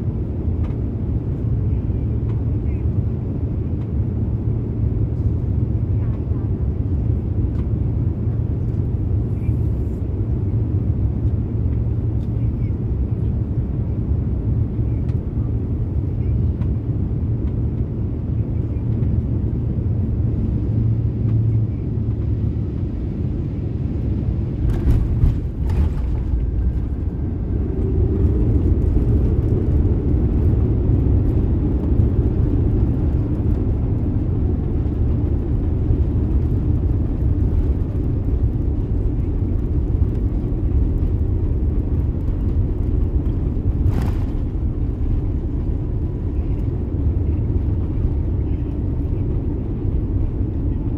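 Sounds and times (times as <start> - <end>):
engine and airflow rumble: 0.0 - 50.9.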